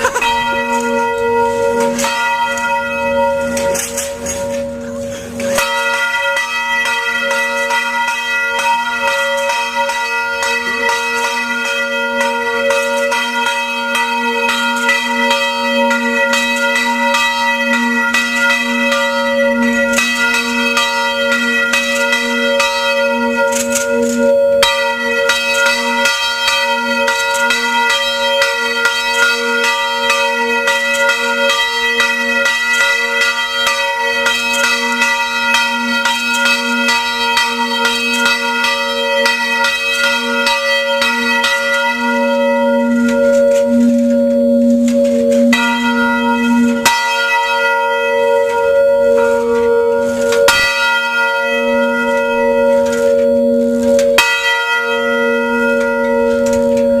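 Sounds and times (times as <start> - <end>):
church bell ringing: 0.0 - 57.0.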